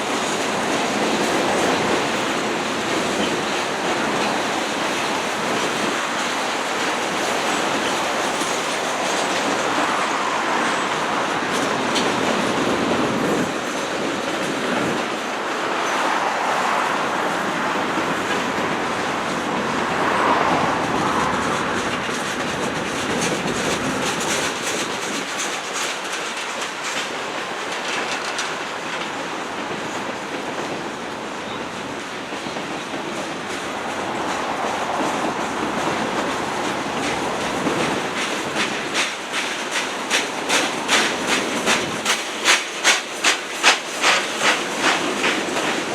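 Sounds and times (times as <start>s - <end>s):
train wheels clattering: 0.0s - 45.9s.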